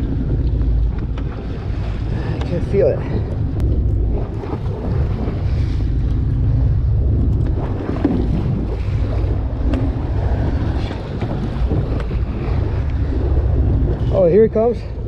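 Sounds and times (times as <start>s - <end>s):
waves washing around boat: 0.0s - 15.0s
wind rumbling on microphone: 0.0s - 15.0s.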